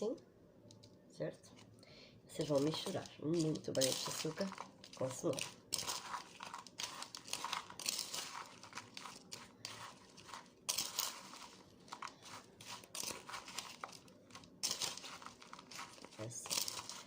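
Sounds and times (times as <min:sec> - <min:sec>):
gritty scraping and crunching: 0:02.4 - 0:17.0.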